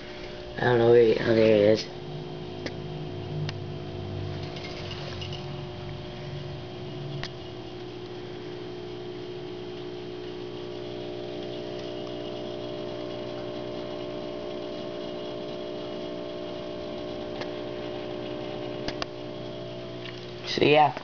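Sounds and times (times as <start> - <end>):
aquarium pump humming: 0.0 - 21.0.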